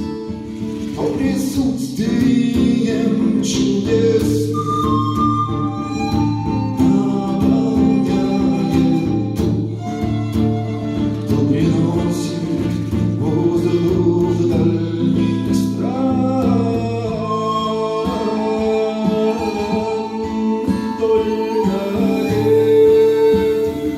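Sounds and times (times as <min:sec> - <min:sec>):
instrumental accompaniment: 0:00.0 - 0:23.9
person singing: 0:00.0 - 0:23.9.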